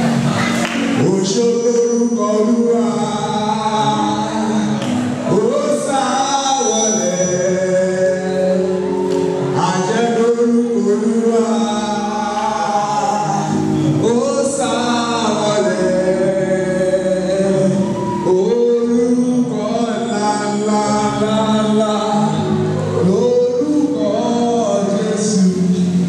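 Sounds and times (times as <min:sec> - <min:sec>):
man singing through microphone: 0:00.0 - 0:26.0
musical accompaniment: 0:00.0 - 0:26.0.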